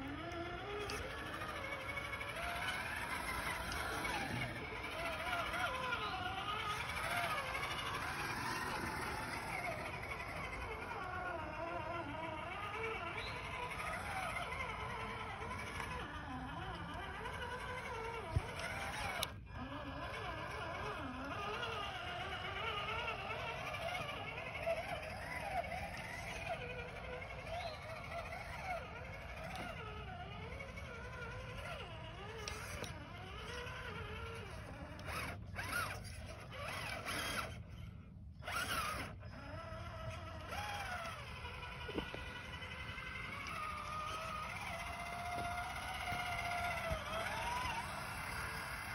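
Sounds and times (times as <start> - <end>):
rc truck motor whining: 0.0 - 48.9.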